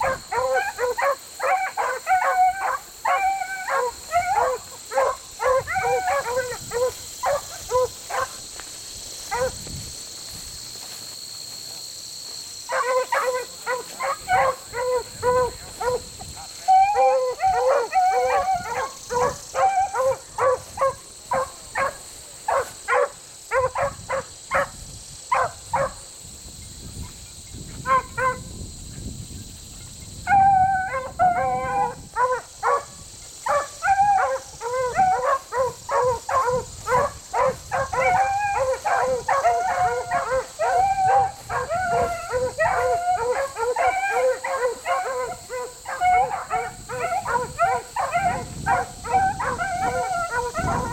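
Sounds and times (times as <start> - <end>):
dogs baying: 0.0 - 8.4, 9.2 - 9.6, 12.7 - 25.9, 30.3 - 50.9.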